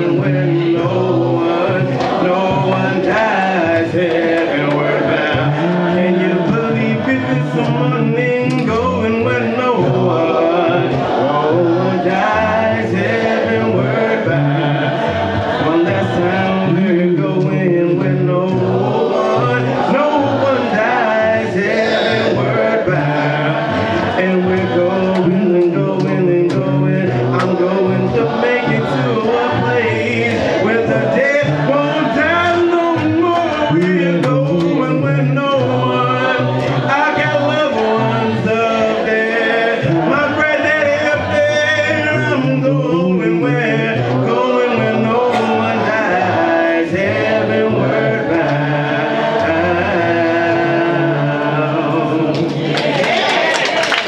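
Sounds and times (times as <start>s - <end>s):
man singing into a microphone: 0.0s - 52.6s
instrumental backing: 0.0s - 54.0s.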